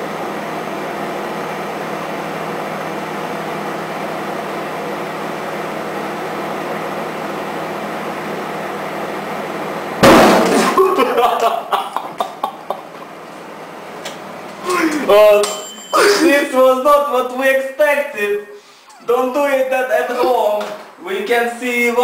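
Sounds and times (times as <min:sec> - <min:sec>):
microwave oven running: 0:00.0 - 0:22.0.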